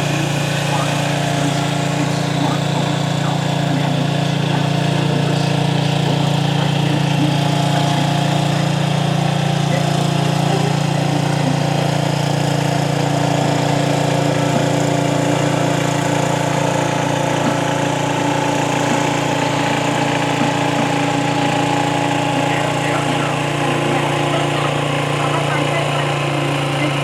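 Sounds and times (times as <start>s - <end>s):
garden tractor engine running: 0.0s - 27.0s.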